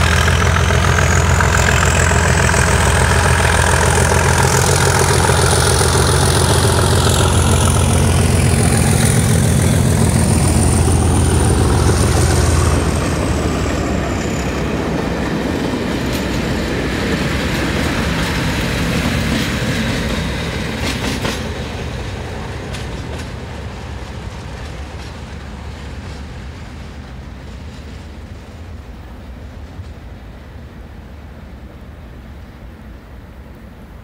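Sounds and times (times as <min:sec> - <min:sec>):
diesel train rumbling away: 0:00.0 - 0:34.0.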